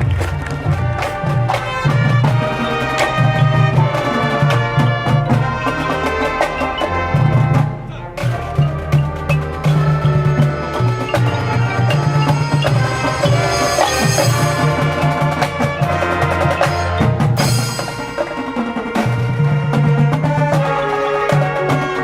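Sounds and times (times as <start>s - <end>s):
sharp percussion hits: 0.0s - 20.7s
marching band playing: 0.0s - 22.0s.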